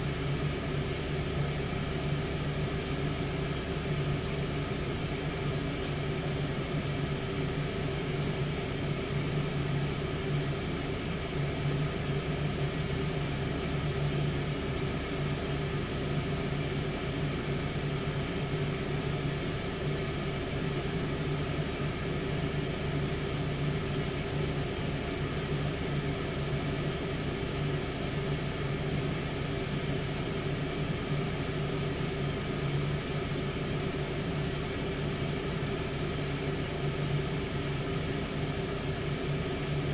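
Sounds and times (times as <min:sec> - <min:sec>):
air fryer fan whirring: 0:00.0 - 0:39.9.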